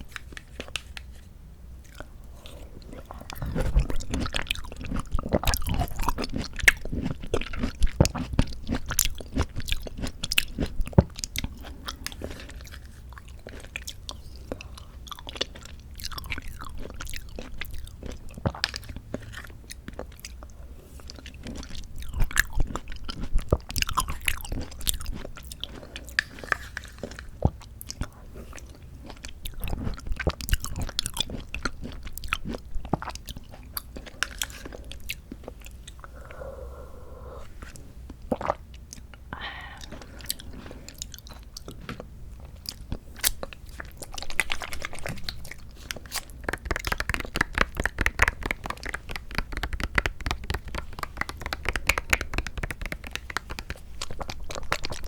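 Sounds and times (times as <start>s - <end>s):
wet chewing with mouth clicks: 1.8s - 55.0s.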